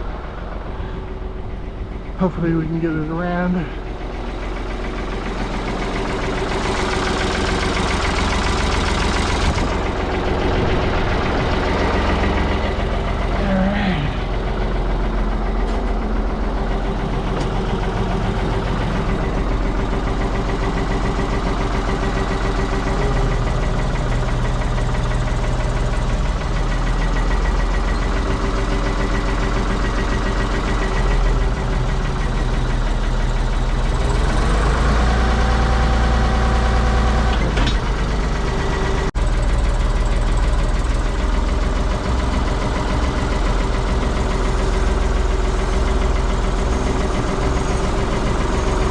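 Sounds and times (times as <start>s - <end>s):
diesel engine running under load: 0.0s - 48.9s
higher engine tones: 0.0s - 48.9s.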